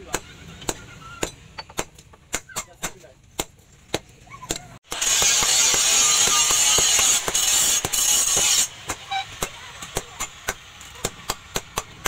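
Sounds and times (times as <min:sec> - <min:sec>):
hammer striking steel on anvil: 0:00.0 - 0:12.0.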